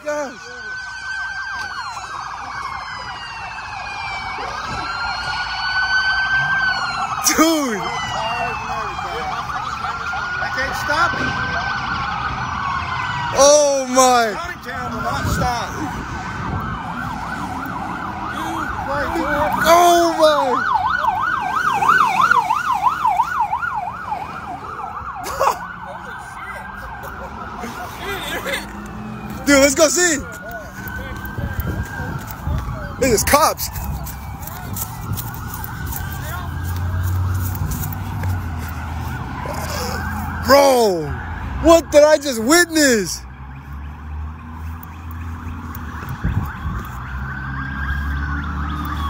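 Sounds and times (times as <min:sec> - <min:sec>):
police sirens wailing and yelping: 0:00.0 - 0:49.0.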